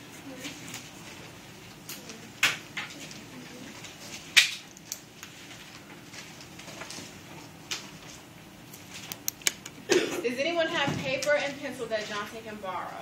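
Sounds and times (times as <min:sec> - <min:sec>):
room murmur: 0:00.0 - 0:13.0.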